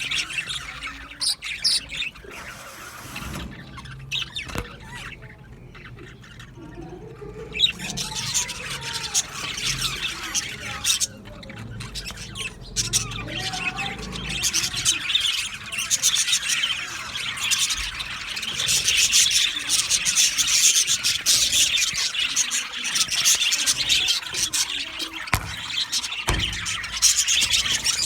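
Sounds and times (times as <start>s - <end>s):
budgerigars chirping and chattering: 0.0s - 28.0s.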